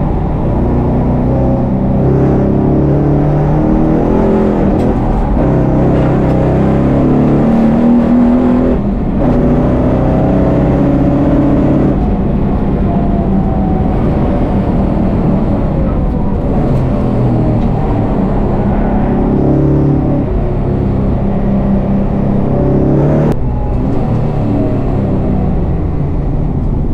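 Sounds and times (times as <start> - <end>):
race car engine revving: 0.0 - 26.9.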